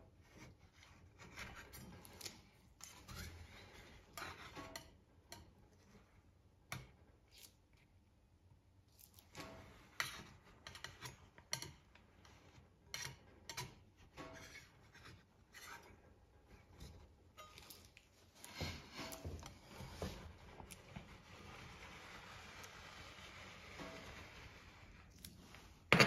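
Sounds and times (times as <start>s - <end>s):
metal spatula scraping cold plate: 0.2s - 6.2s, 9.3s - 26.0s.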